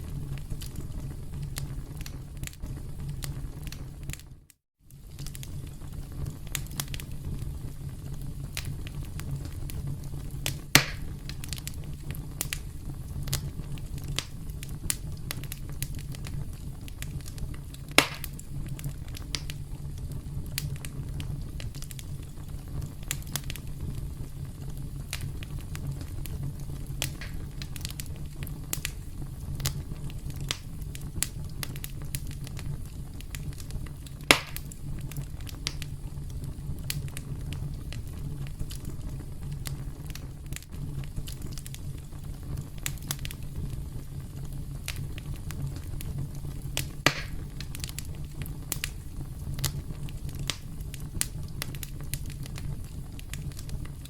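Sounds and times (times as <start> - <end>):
campfire crackling: 0.0 - 54.0
loud sharp fire pops: 5.0 - 54.0.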